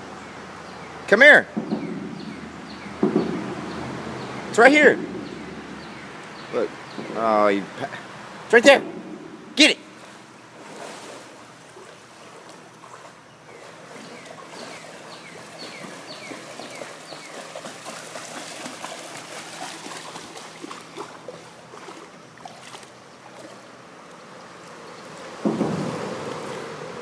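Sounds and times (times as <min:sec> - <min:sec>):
water lapping and splashing: 0:01.6 - 0:27.0.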